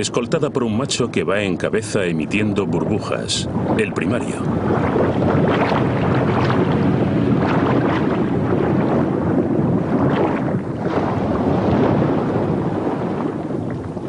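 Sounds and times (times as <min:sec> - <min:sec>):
water rushing underwater: 0:00.0 - 0:14.0.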